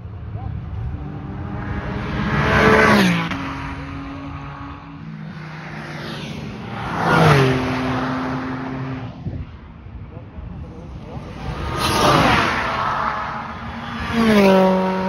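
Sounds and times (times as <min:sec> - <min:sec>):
sports cars passing at speed: 0:00.0 - 0:15.0.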